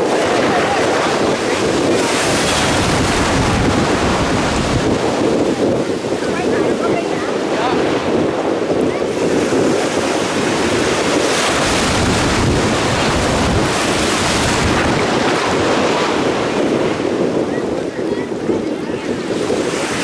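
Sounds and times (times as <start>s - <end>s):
choppy sea surf: 0.0s - 20.0s
wind buffeting microphone: 0.0s - 20.0s.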